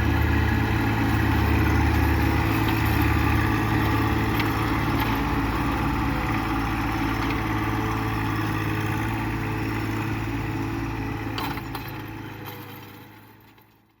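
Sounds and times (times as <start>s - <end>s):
diesel tractor engine running: 0.0s - 13.9s.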